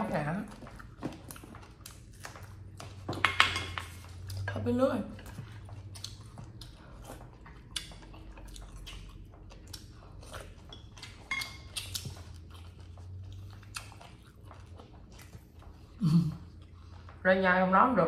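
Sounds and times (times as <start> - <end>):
people chewing: 0.1 - 17.2.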